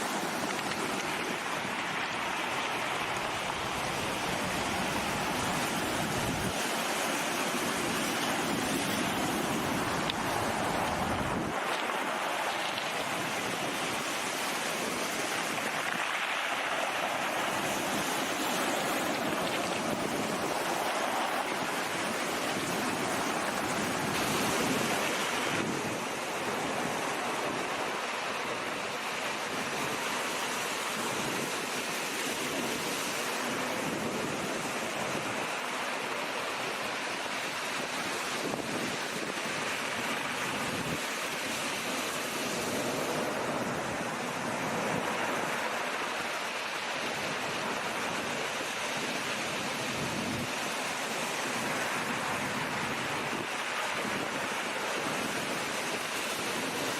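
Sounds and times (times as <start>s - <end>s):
sea waves washing in: 0.0s - 56.9s
wind buffeting microphone: 0.0s - 56.9s.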